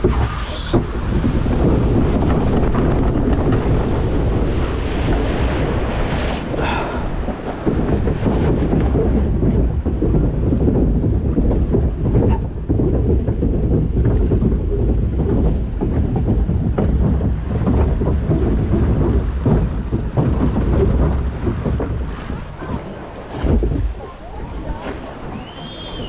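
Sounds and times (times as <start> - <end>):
rushing churning water: 0.0 - 26.0
wind rumble on microphone: 0.0 - 26.0.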